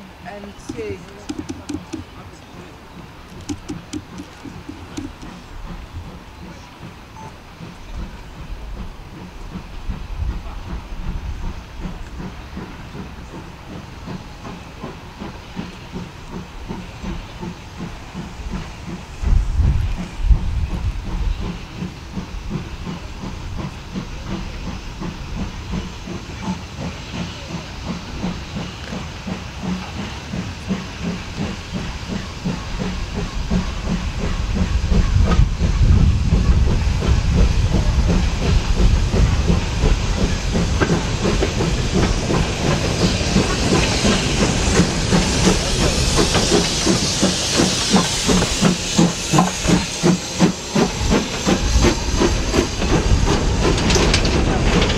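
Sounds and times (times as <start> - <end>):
steam hissing: 0.0 - 54.9
steam locomotive chuffing: 0.0 - 54.9.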